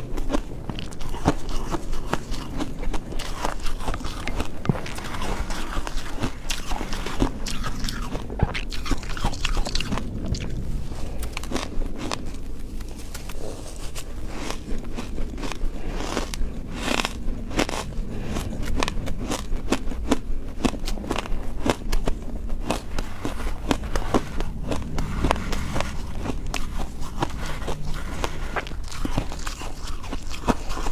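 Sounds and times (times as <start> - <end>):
ice being chewed: 0.0 - 30.9.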